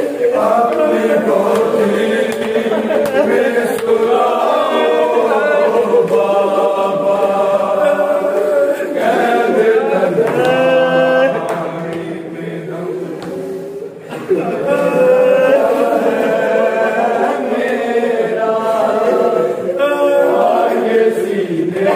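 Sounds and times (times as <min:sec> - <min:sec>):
men's voices chanting a lament: 0:00.0 - 0:21.9.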